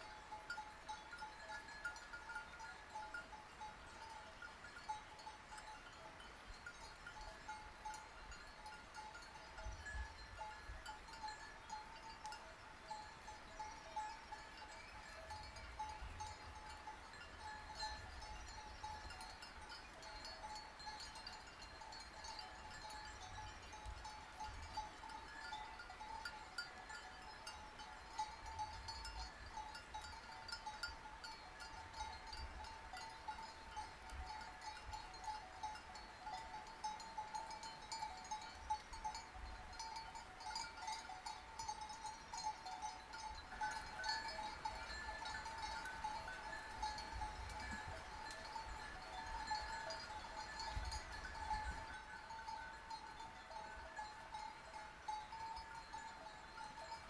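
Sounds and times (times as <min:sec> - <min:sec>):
sheep bells clanking: 0:00.0 - 0:57.0.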